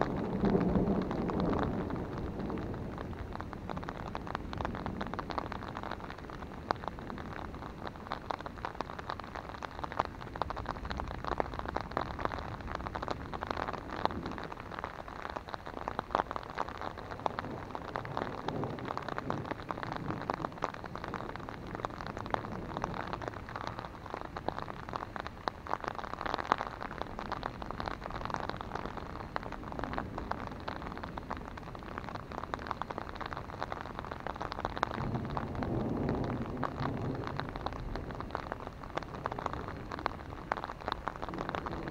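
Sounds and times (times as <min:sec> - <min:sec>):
rain on an umbrella: 0:00.0 - 0:41.9.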